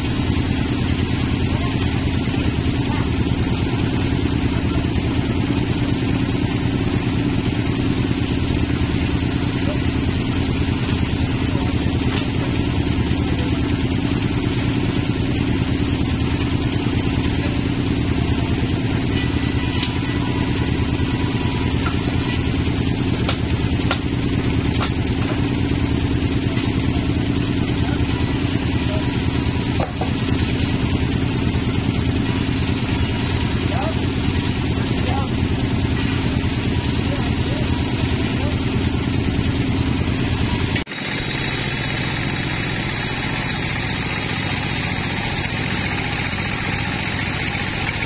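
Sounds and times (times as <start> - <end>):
band sawmill drone: 0.0 - 48.0.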